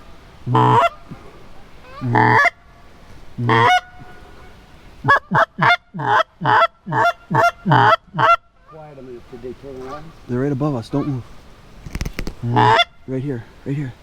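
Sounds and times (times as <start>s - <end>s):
goose honking: 0.0s - 2.6s, 3.4s - 11.3s, 12.4s - 13.2s.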